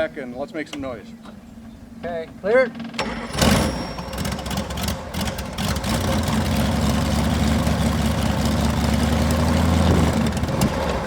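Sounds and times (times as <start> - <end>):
radial aircraft engine starting: 0.7 - 11.0.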